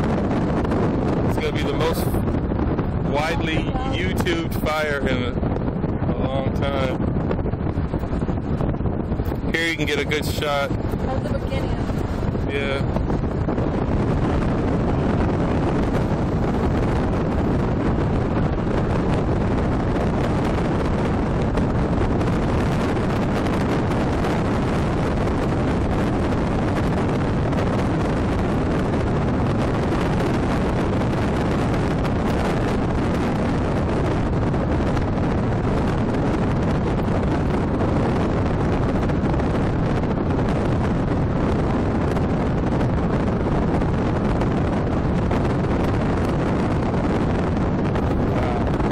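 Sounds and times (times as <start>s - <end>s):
car road noise: 0.0s - 48.9s
wind on microphone: 0.0s - 48.9s.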